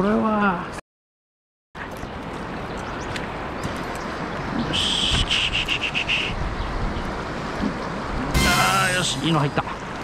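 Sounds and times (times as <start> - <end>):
river water running: 1.8 - 10.0.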